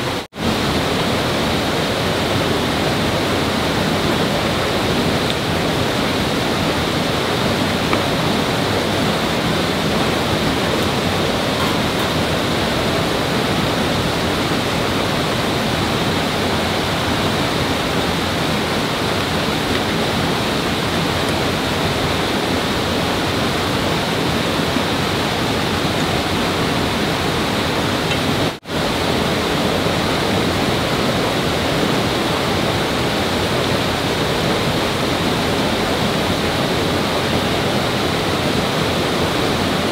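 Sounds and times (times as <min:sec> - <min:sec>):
rushing flowing water: 0:00.0 - 0:39.9.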